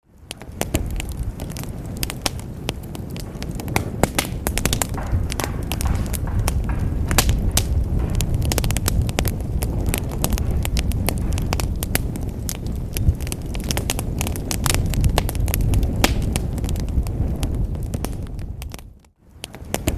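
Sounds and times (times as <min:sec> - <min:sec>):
low rumble of flames: 0:00.0 - 0:19.9
wood fire crackling and popping: 0:00.0 - 0:19.9.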